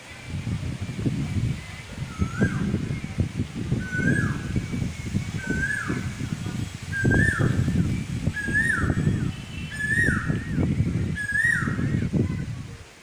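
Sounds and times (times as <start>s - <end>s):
low rumbling noise: 0.0s - 12.9s.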